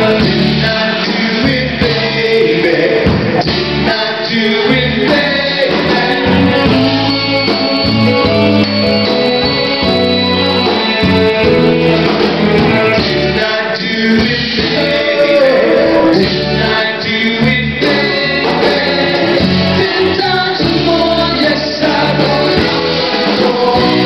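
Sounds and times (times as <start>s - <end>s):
male vocal group singing: 0.0s - 24.0s
soul backing band with drums: 0.0s - 24.0s.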